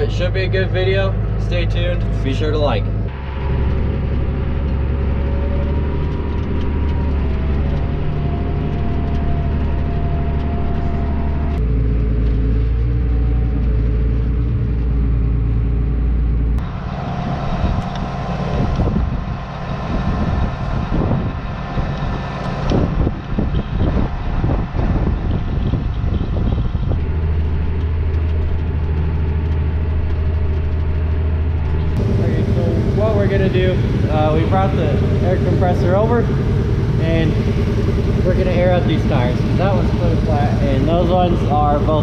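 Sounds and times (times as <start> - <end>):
tractor engine humming: 0.0 - 42.0
wind buffeting: 0.0 - 42.0.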